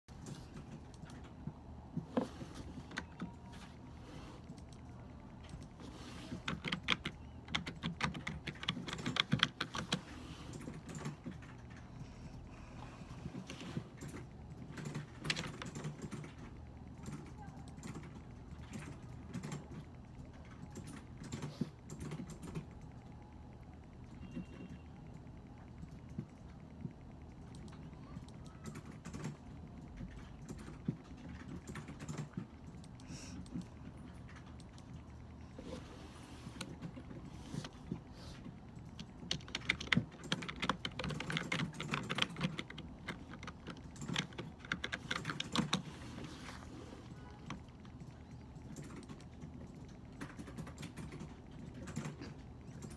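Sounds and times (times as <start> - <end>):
keyboard typing: 0.1 - 52.9
low room hum: 0.1 - 52.9.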